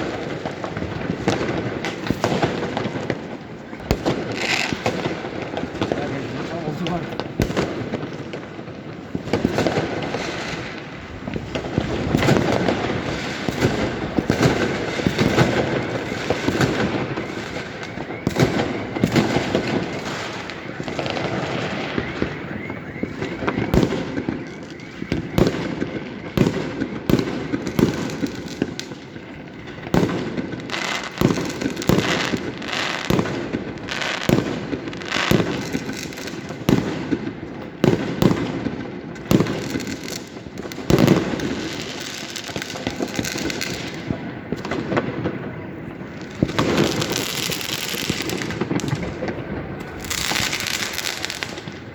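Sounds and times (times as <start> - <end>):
fireworks and firecrackers banging: 0.0 - 51.9.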